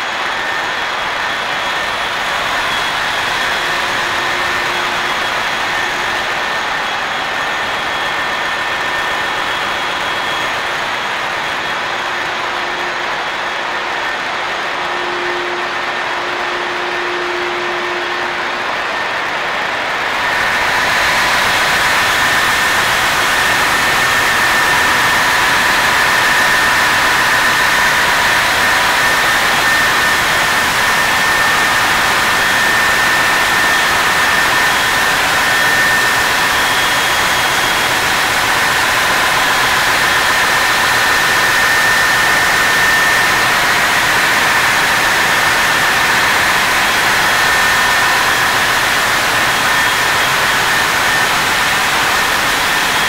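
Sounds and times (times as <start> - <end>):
engine room machinery roar: 0.0 - 53.0
steady high whine: 0.0 - 53.0.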